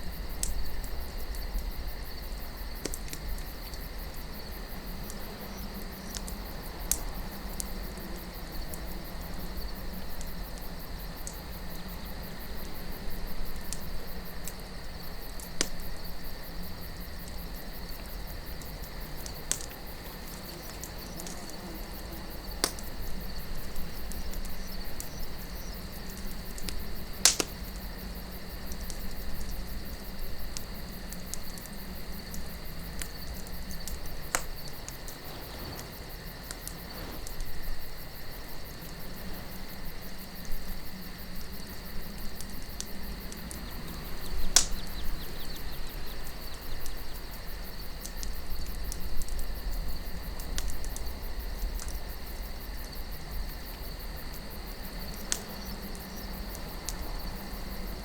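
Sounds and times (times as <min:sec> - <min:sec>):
campfire crackling: 0:00.0 - 0:58.0
crickets chirring: 0:00.0 - 0:58.0.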